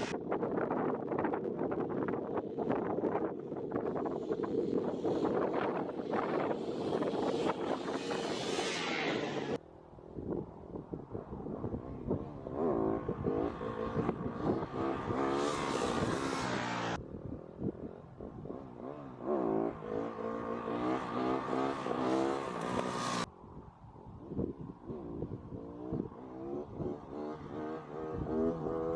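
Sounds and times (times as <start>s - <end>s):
wind noise: 0.0s - 28.9s
motorcycle engine revving: 2.6s - 9.6s, 10.7s - 23.3s, 24.4s - 28.9s.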